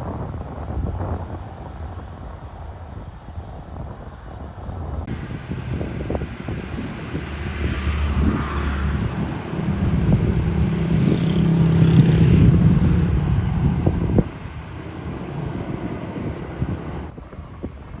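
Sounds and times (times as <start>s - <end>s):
jet airliner rumble: 0.0s - 18.0s
wind buffeting microphone: 0.0s - 18.0s.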